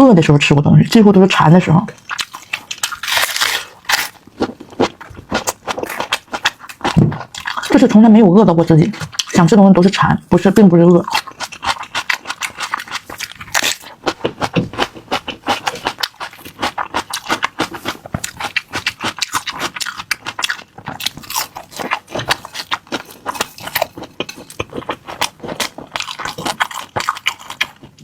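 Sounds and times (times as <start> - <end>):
crunchy chewing: 1.9 - 8.0, 8.7 - 28.0.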